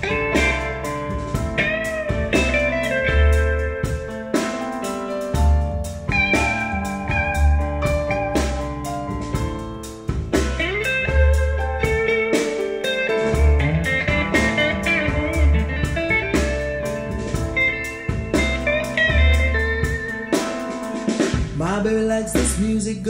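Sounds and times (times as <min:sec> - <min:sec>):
blues guitar lead bending notes: 0:00.0 - 0:22.0
deep bass notes: 0:00.0 - 0:23.0.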